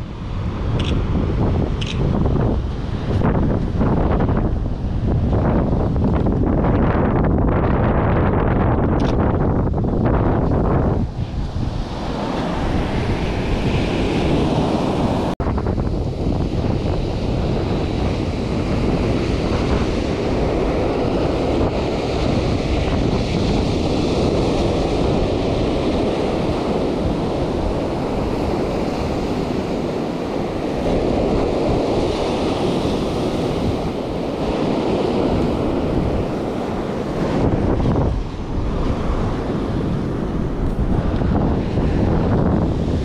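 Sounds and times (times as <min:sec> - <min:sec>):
ocean surf breaking on sand: 0:00.0 - 0:07.4, 0:09.2 - 0:43.0
wind buffeting microphone: 0:00.0 - 0:43.0.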